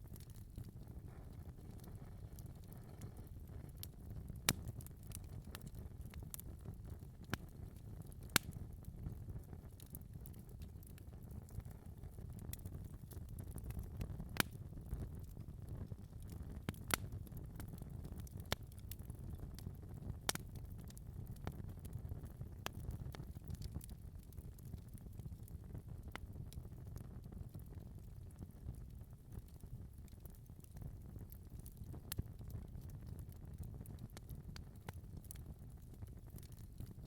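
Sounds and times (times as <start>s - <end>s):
fire crackling and popping: 0.0s - 37.0s
low rumble of flames: 0.0s - 37.0s.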